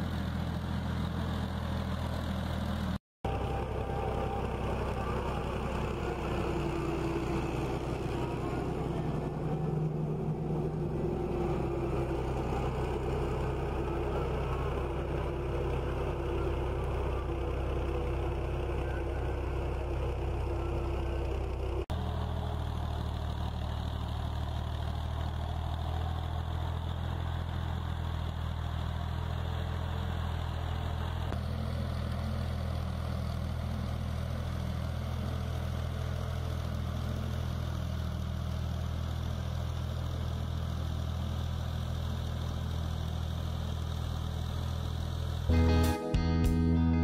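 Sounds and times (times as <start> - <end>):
tractor diesel engine drone: 0.0 - 47.0.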